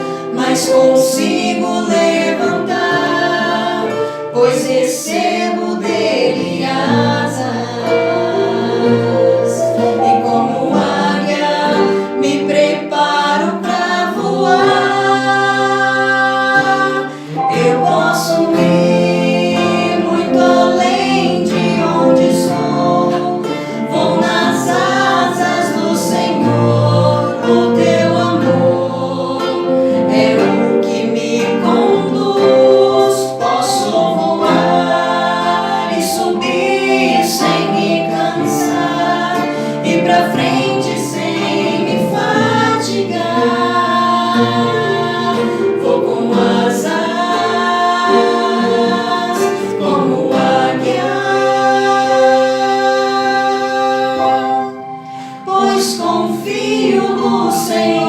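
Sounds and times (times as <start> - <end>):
musical accompaniment: 0.0 - 58.0
vocal group singing in harmony: 0.0 - 58.0.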